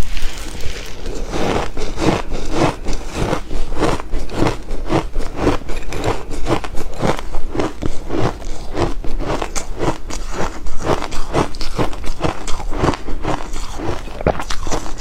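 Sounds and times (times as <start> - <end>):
ice being chewed: 0.0 - 15.0.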